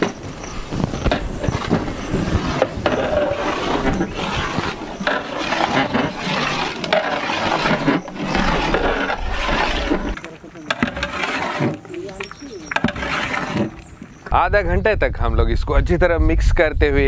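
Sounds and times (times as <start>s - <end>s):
ladle scraping metal pot: 0.0s - 14.3s
liquid sloshing: 0.0s - 14.3s.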